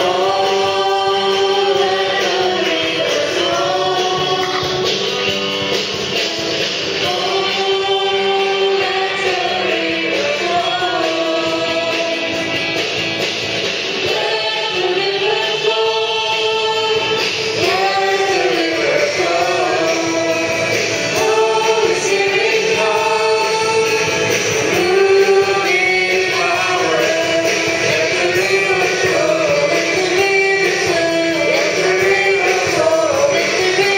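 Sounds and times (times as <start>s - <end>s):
choir singing a hymn: 0.0s - 5.3s, 6.8s - 13.0s, 13.6s - 33.9s.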